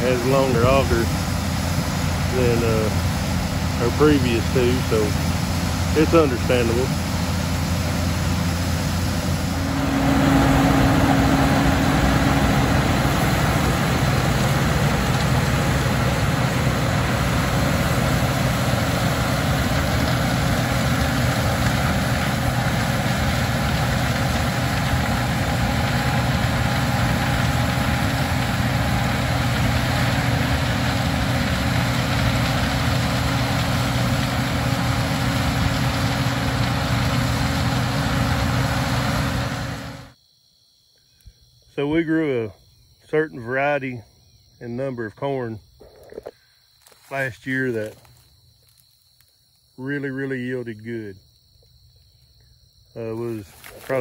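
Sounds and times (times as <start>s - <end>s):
combine harvester droning: 0.0s - 40.2s, 44.6s - 48.8s, 53.0s - 54.0s.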